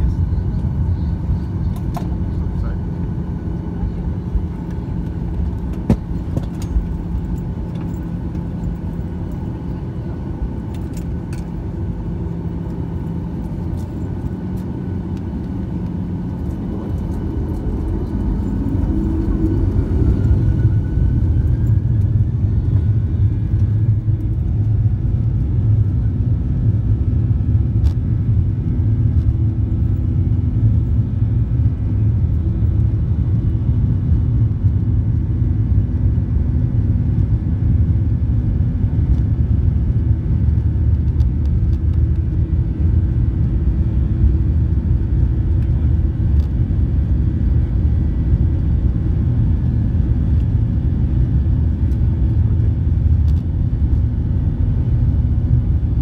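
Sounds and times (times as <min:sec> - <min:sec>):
faint engine whine: 0:00.0 - 0:56.0
jet engine rumble: 0:00.0 - 0:56.0.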